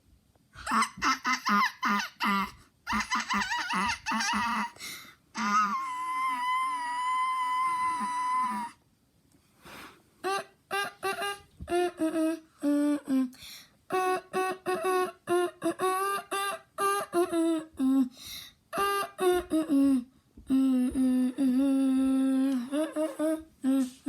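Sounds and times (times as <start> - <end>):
person humming a tune: 0.6 - 4.8, 5.4 - 8.8, 10.2 - 24.0.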